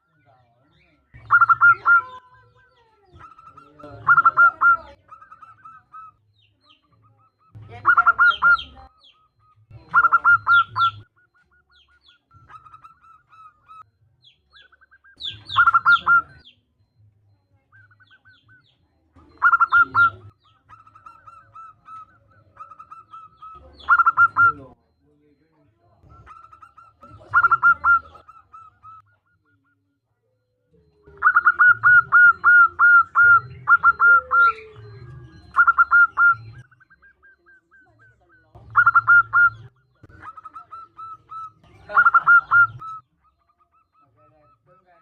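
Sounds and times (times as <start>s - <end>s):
dove cooing: 0.0s - 45.0s.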